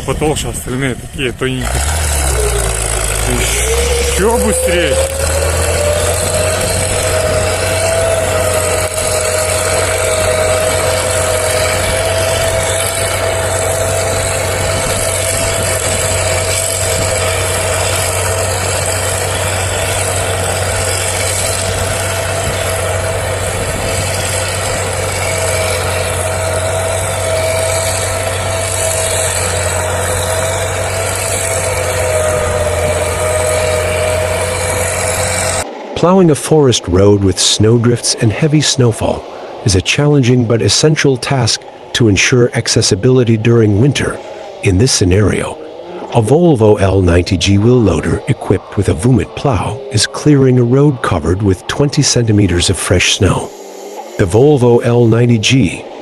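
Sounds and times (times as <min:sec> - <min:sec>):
diesel engine running: 0:00.0 - 0:56.0
steady whining tone: 0:00.0 - 0:56.0.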